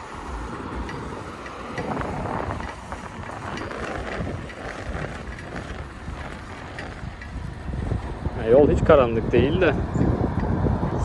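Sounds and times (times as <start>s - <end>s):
faint ticks from bike: 0.0s - 8.2s, 9.9s - 10.6s
road and tyre rumble: 0.0s - 11.0s
wind buffeting microphone: 0.0s - 11.0s.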